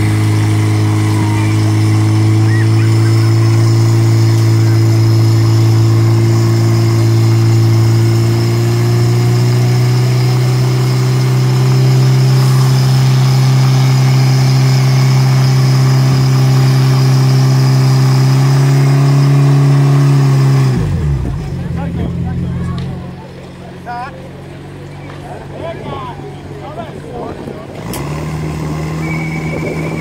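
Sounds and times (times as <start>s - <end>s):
pump engine droning at high revs: 0.0s - 24.8s, 25.4s - 30.0s.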